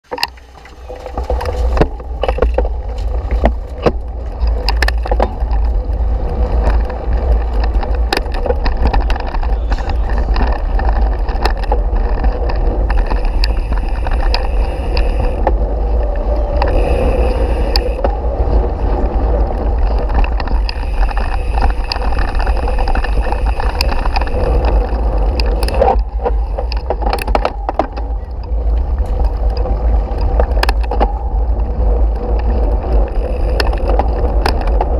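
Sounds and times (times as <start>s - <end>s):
bike knocks and rattles: 0.0s - 34.9s
low rumble of bike tyres: 0.0s - 34.9s
wind on microphone: 0.6s - 34.9s.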